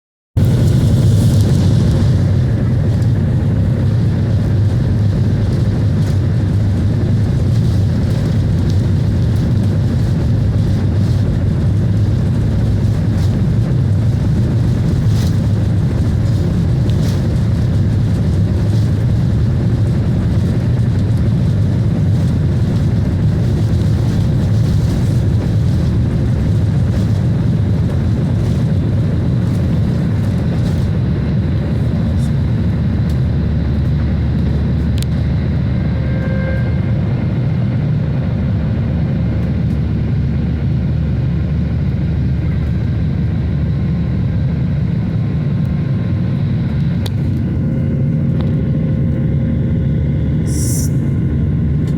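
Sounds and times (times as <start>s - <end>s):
jet engines rumbling in cabin: 0.4s - 51.9s.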